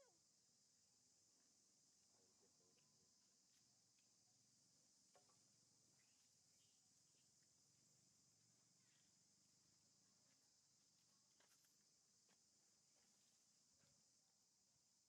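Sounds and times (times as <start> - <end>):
faint high-pitched hiss: 0.0 - 15.0.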